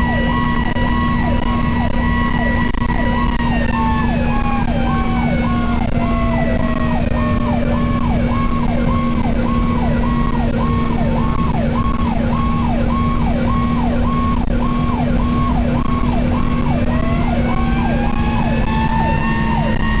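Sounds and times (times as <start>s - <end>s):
engine hum: 0.0s - 20.0s
fast sweeping fire engine siren: 0.0s - 20.0s
road noise: 0.0s - 20.0s
slow gliding siren tone: 0.0s - 20.0s.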